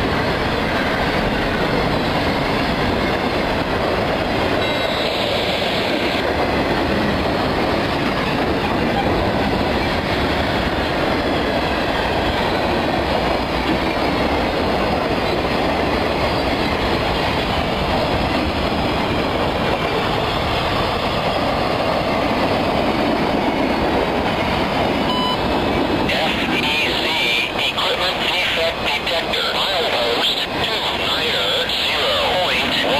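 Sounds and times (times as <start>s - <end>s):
freight train wheels on rails: 0.0s - 32.9s.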